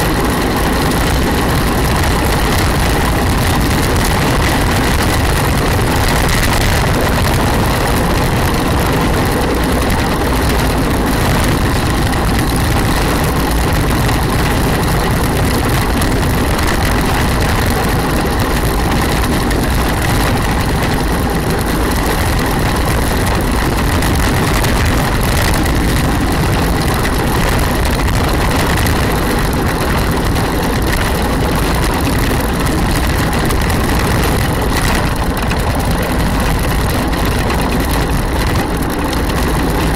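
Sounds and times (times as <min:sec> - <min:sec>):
wheels rolling on asphalt: 0:00.0 - 0:39.9
wind rushing on microphone: 0:00.0 - 0:39.9.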